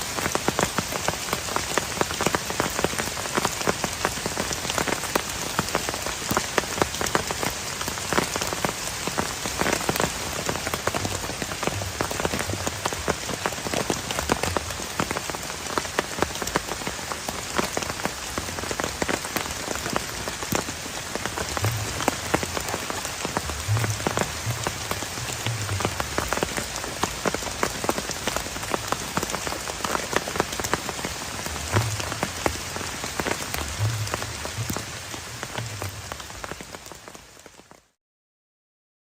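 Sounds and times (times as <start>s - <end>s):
heavy rain on a plastic tarp: 0.0s - 38.0s.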